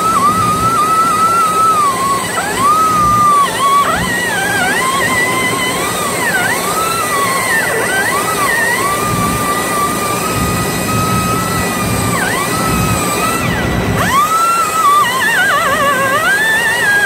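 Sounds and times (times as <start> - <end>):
steady low hum: 0.0 - 17.0
wavering gliding lead melody: 0.0 - 17.0.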